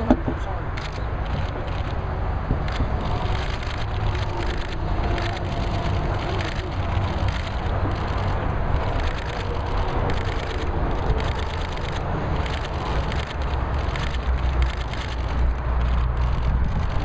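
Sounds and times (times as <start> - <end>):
wind on microphone: 0.0 - 17.0
camera shutters clicking: 0.7 - 2.0, 2.6 - 17.0.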